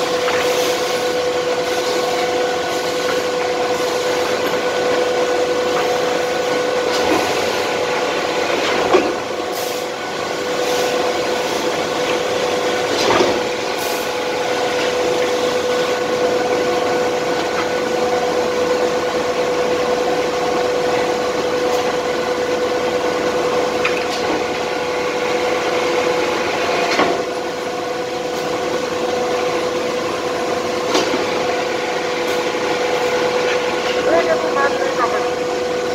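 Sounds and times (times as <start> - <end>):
machinery humming: 0.0 - 35.9.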